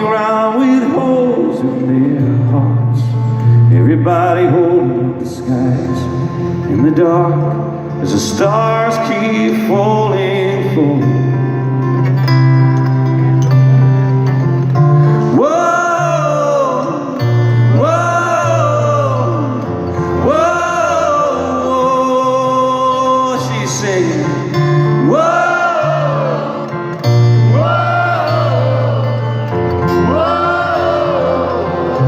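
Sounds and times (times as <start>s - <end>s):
acoustic guitar: 0.0s - 32.0s.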